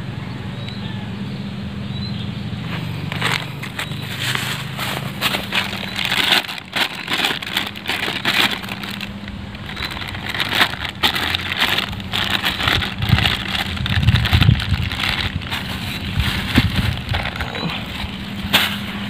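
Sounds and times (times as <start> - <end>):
plastic bags crinkling: 2.7 - 19.0.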